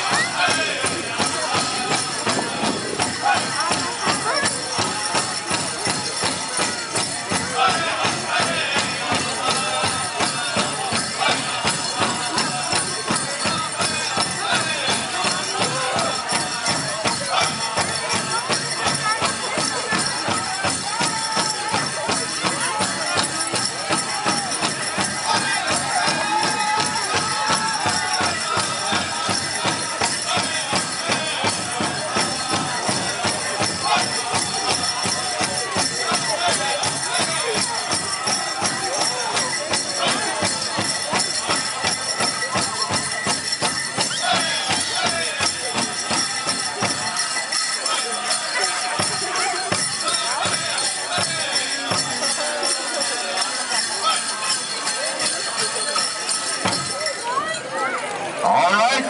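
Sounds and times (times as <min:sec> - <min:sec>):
drum group singing: 0:00.0 - 0:55.5
bells jingling: 0:00.0 - 0:59.0.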